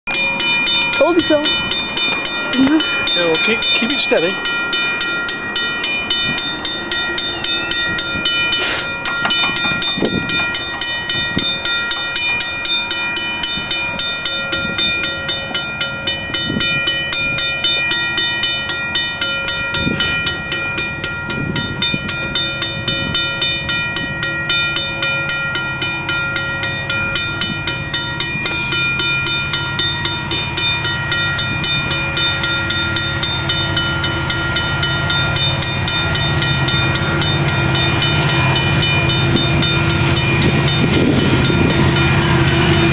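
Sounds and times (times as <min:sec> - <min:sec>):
distant train rumble: 0:00.1 - 0:42.9
railroad crossing bell ringing: 0:00.1 - 0:42.9.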